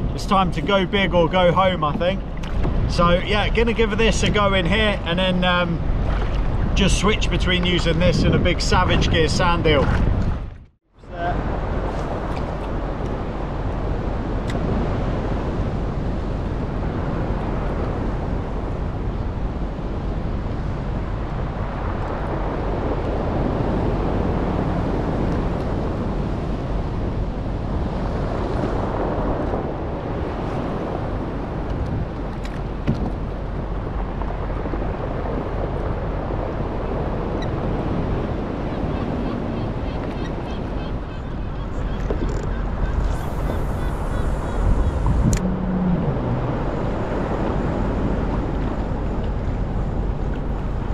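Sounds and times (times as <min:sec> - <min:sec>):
choppy sea washing around kayak: 0:00.0 - 0:50.9
wind on microphone: 0:00.0 - 0:50.9.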